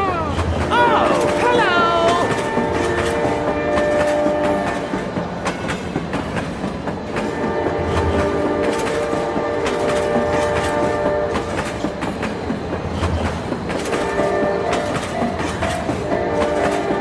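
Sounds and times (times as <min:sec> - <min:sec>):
train wheels clickety-clack: 0:00.1 - 0:17.0.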